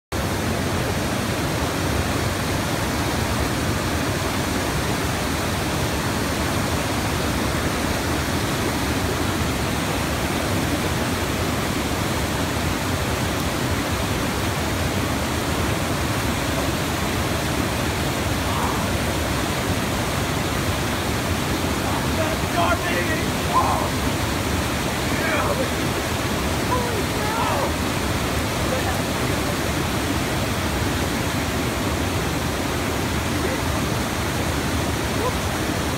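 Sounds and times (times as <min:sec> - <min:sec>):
whitewater rushing over rocks: 0:00.2 - 0:35.9.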